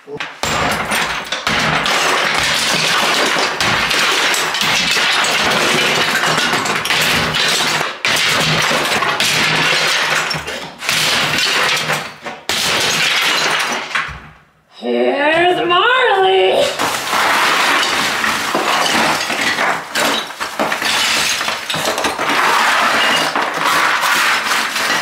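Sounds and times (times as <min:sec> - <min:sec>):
plaster and lath cracking: 0:00.2 - 0:14.3, 0:16.7 - 0:25.0
debris falling: 0:00.2 - 0:14.4, 0:16.7 - 0:25.0.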